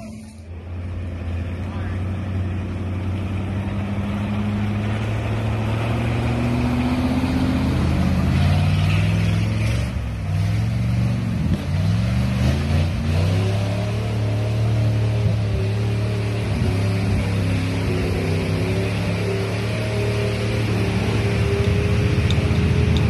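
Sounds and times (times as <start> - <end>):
jeep engine running: 0.0 - 23.0.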